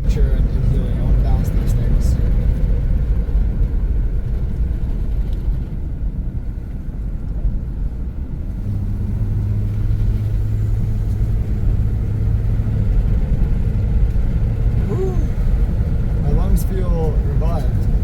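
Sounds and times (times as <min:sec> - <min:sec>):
engine hum: 0:00.0 - 0:18.0
road and engine rumble: 0:00.0 - 0:18.0.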